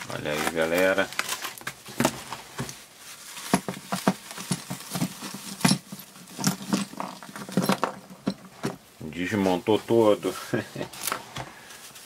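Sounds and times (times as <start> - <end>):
bubble wrap crinkling: 0.0 - 8.0, 9.0 - 12.0.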